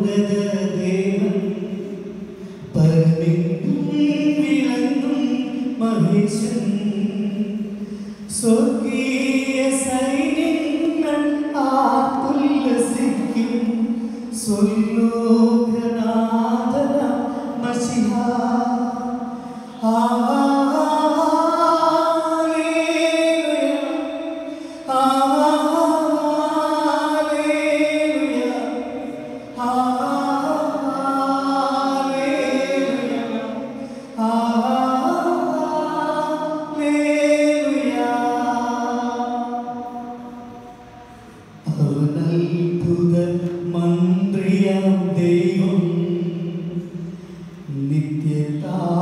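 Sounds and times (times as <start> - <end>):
man singing unaccompanied: 0.0 - 40.4, 41.6 - 49.0.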